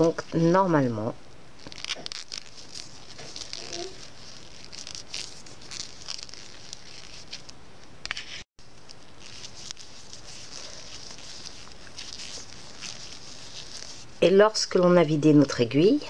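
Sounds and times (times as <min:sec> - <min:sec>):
background hiss: 0:00.0 - 0:14.7
wool rustling: 0:01.5 - 0:07.6, 0:08.4 - 0:15.6.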